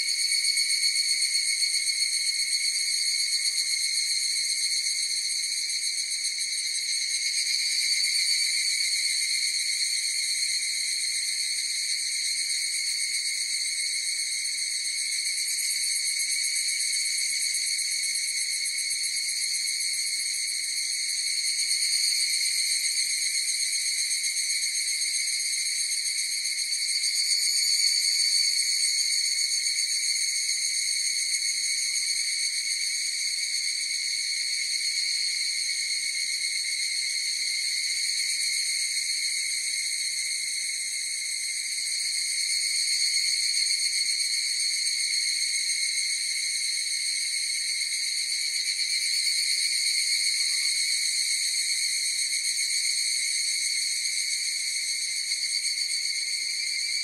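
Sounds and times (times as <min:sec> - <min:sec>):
cicadas trilling: 0:00.0 - 0:57.0.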